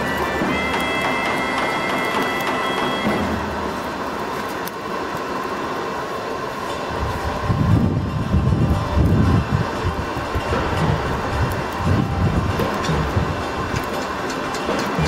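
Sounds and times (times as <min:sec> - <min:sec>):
air blower rushing: 0:00.0 - 0:15.0
faint steady whine: 0:00.0 - 0:15.0.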